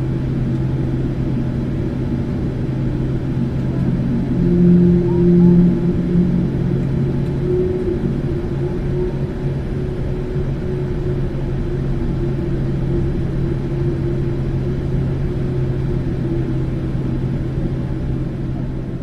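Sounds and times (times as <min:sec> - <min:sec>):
jet engine running: 0:00.0 - 0:19.0.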